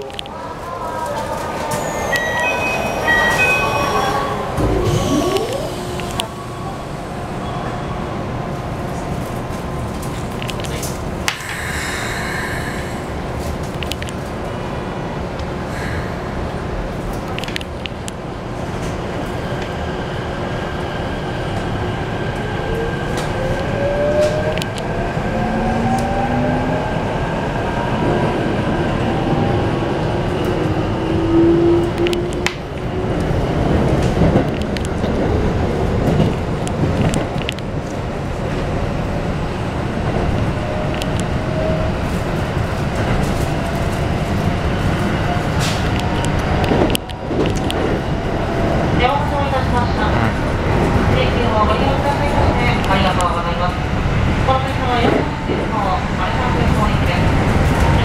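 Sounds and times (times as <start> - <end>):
train car rumble: 0.0 - 58.0.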